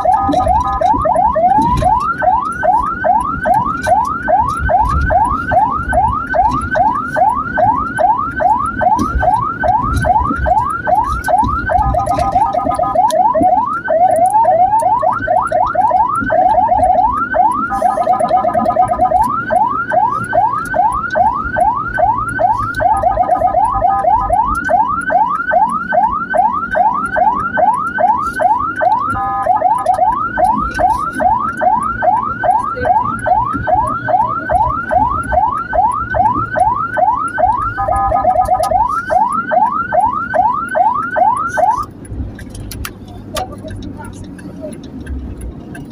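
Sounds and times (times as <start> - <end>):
ambulance siren yelping: 0.0 - 45.9.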